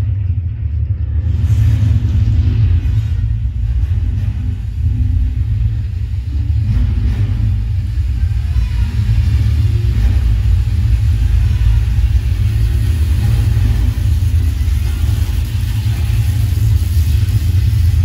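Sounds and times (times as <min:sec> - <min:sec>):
action film soundtrack bass rumble: 0:00.0 - 0:18.0.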